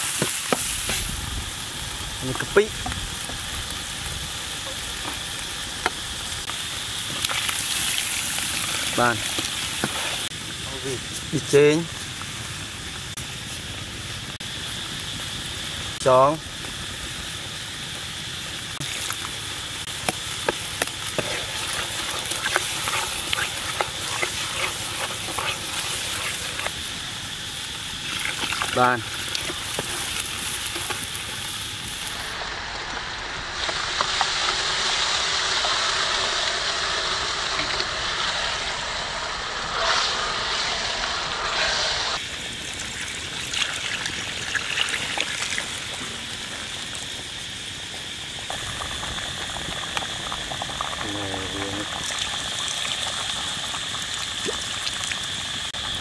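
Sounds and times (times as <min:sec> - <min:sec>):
sauce sizzling: 0:00.0 - 0:56.0.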